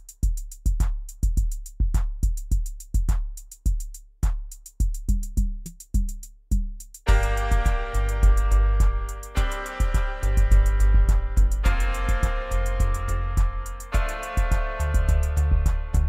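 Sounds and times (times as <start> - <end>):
hi-hat ticks: 0.0 - 16.0
kick drum: 0.0 - 16.0.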